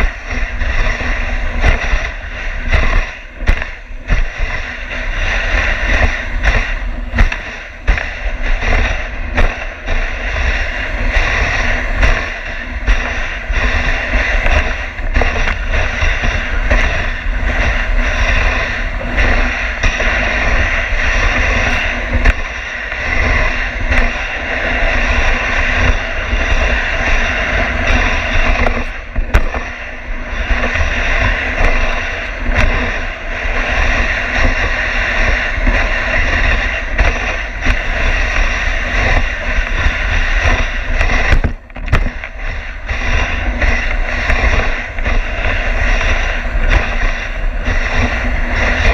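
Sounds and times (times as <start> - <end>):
sled runners scraping on snow: 0.0 - 48.9
wind rumbling on microphone: 0.0 - 48.9.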